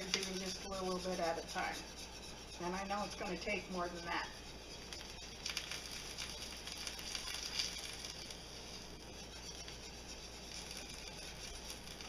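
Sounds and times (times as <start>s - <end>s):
whisk stirring sauce in skillet: 0.0s - 12.0s.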